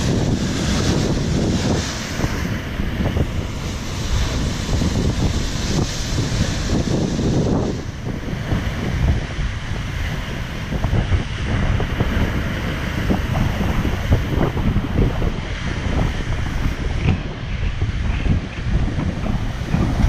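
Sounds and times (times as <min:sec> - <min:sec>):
ocean surf on rocks: 0:00.0 - 0:20.0
wind buffeting microphone: 0:00.0 - 0:20.0.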